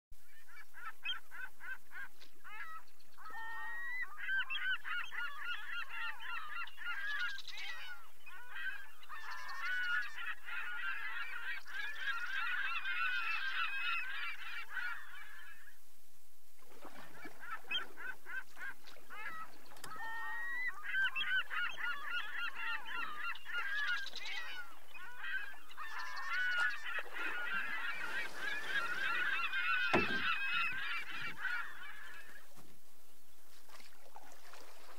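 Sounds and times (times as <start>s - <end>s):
flock of birds calling: 0.4s - 15.8s, 16.9s - 32.6s.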